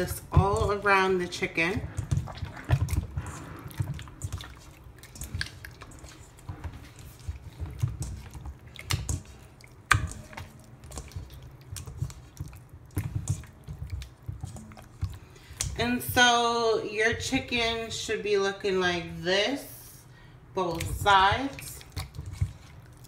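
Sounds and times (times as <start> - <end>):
hands squishing wet meat: 0.0 - 18.0, 20.4 - 23.0.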